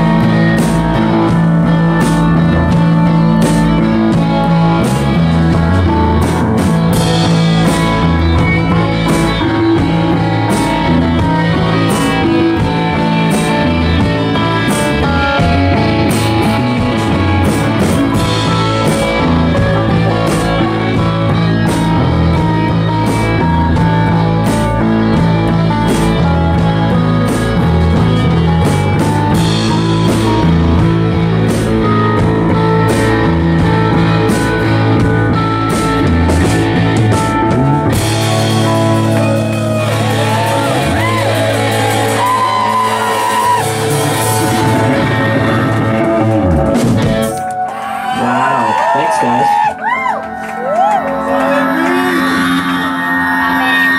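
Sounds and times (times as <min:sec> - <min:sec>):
drum strikes on steady beat: 0:00.0 - 0:47.4
rock band playing instrumental: 0:00.0 - 0:53.9.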